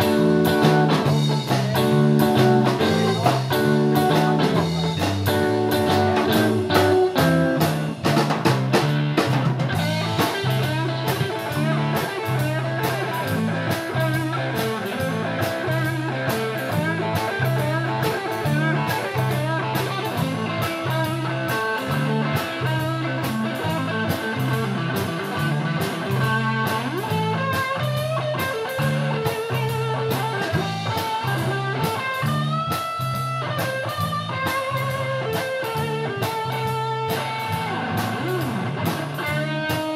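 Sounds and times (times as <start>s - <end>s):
bass guitar riff: 0.0s - 39.9s
drum kit beat: 0.0s - 39.9s
electric guitar: 0.0s - 39.9s.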